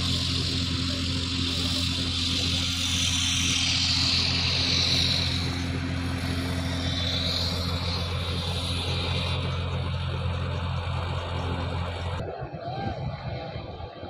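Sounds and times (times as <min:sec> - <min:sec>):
high hiss: 0:00.0 - 0:12.0
diesel machinery engine drone: 0:00.0 - 0:14.0.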